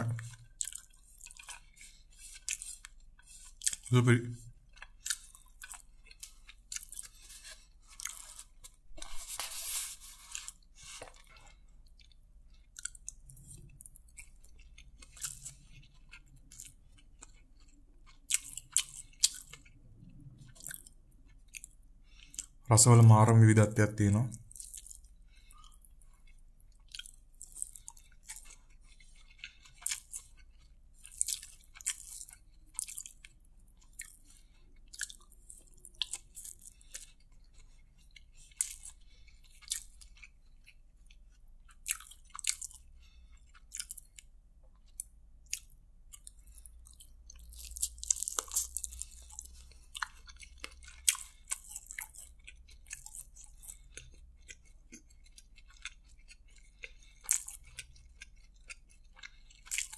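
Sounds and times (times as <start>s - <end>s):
wet chewing clicks and smacks: 0.0s - 8.9s, 10.3s - 22.6s, 24.2s - 59.9s.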